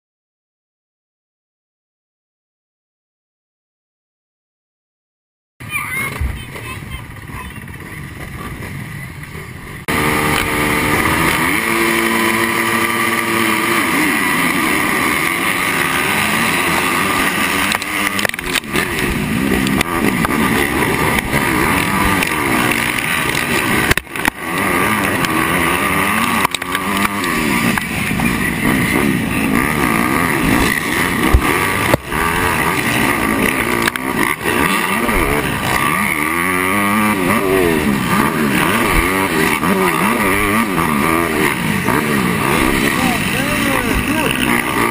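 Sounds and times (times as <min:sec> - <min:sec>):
motocross bike engine revving: 0:06.1 - 0:44.9.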